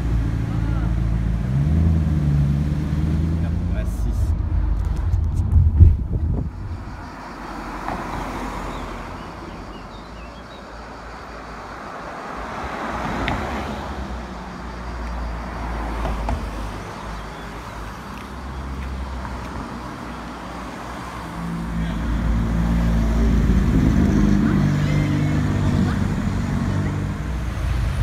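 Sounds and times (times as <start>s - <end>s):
cars passing on street: 0.0s - 28.0s.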